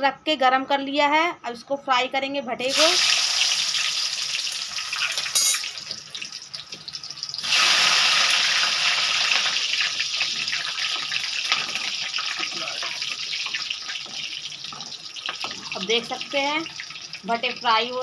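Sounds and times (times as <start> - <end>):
eggplant deep-frying in hot oil: 2.6 - 18.0.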